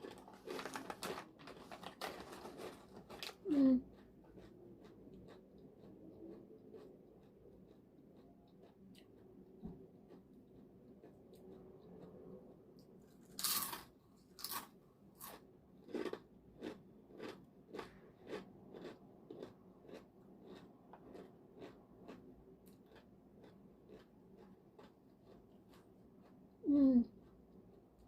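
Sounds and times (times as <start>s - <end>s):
chewing crunchy chips: 0.0s - 26.6s.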